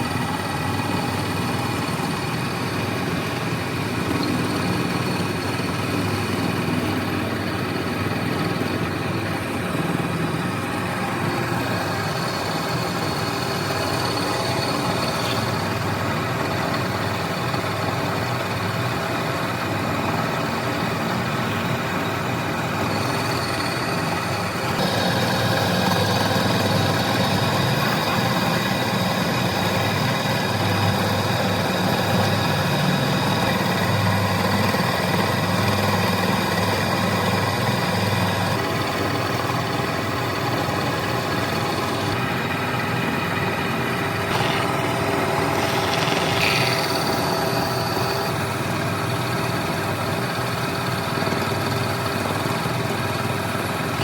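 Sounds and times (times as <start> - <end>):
woodworking machinery motor hum: 0.0 - 54.0.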